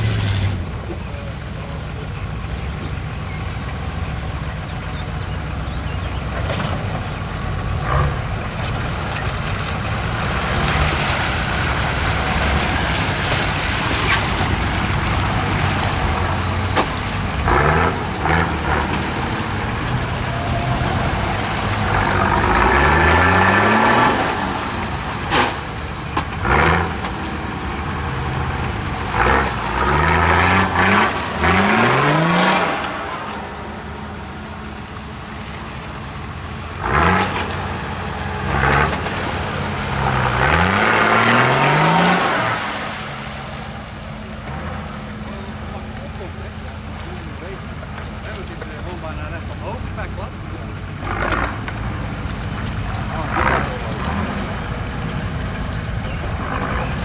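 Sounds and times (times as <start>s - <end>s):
off-road engine running and revving: 0.0s - 57.0s.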